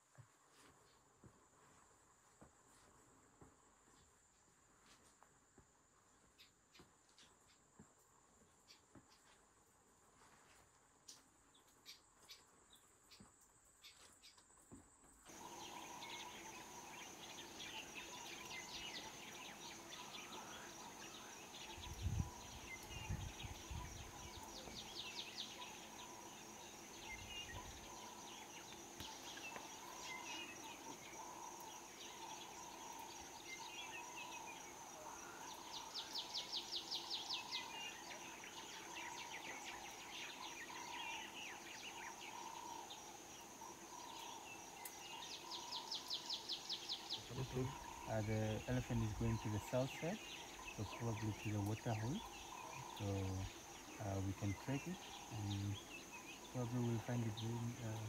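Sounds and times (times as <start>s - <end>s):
insects chirring: 10.6s - 58.0s.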